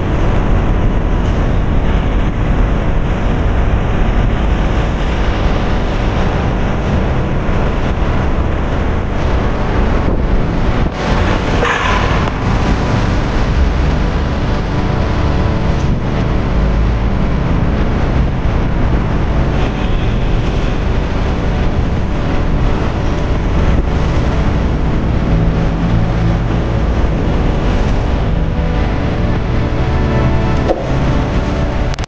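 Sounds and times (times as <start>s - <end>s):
car and truck engines passing: 0.0s - 32.0s
low traffic rumble: 0.0s - 32.0s.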